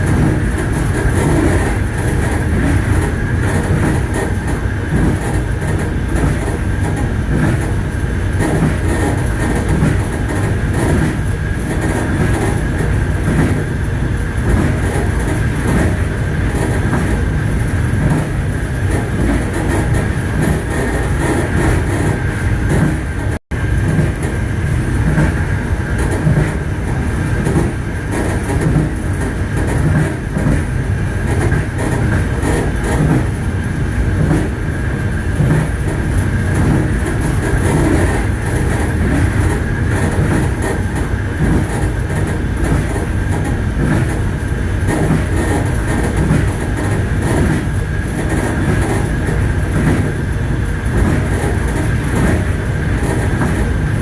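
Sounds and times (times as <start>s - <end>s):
clickety-clack over rail joints: 0.0s - 54.0s
train wheels rumbling on track: 0.0s - 54.0s.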